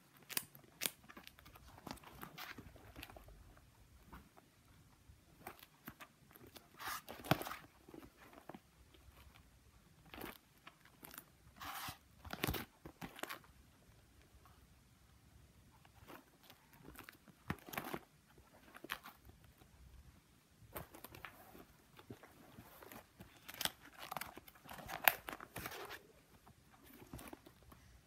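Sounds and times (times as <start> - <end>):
plastic binder pages rustling: 0.0 - 4.6, 5.3 - 13.6, 15.8 - 19.7, 20.6 - 27.9.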